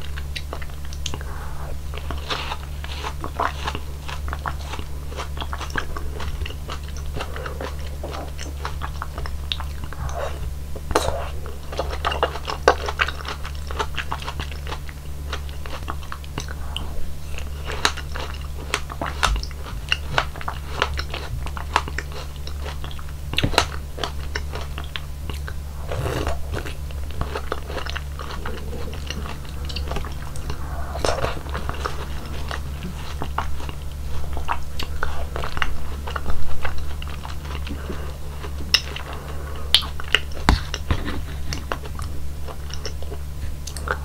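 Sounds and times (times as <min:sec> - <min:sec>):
chewing soft fruit: 0:00.0 - 0:44.0
steady low hum: 0:00.0 - 0:44.0.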